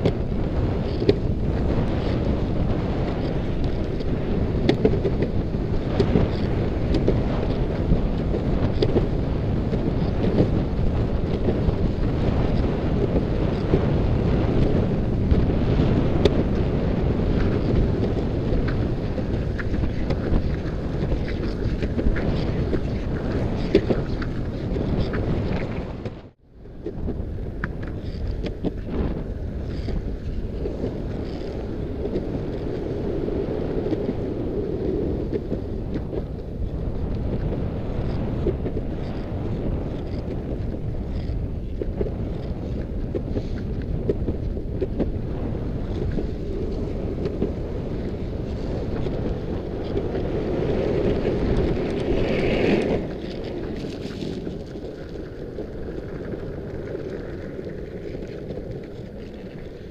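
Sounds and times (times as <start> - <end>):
longboard wheels rolling on asphalt: 0.0 - 59.9
wind buffeting microphone: 0.0 - 59.9.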